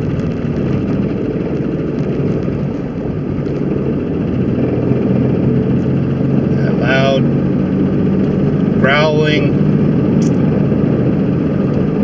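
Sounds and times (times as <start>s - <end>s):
drivetrain growling inside car: 0.0s - 12.0s.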